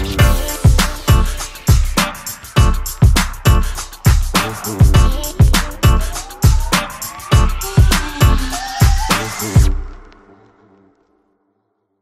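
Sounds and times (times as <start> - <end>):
song with steady drum beat: 0.0 - 9.9.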